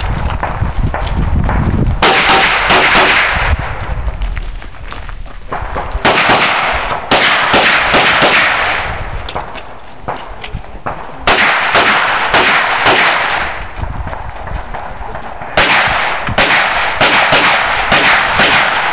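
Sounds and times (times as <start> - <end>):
gunshots: 0.3 - 3.7, 5.5 - 13.7, 14.6 - 18.9.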